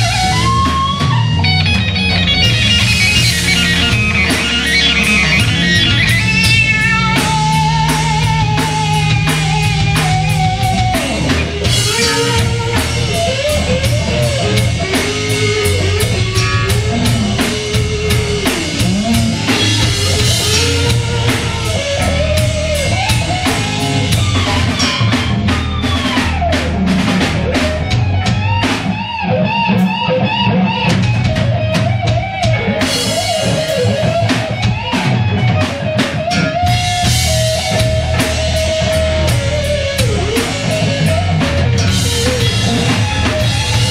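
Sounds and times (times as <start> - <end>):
lead electric guitar: 0.0 - 43.9
rock band playing: 0.0 - 43.9.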